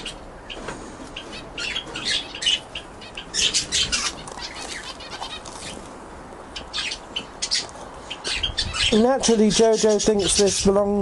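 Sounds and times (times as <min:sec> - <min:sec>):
canaries chirping: 0:00.0 - 0:11.0.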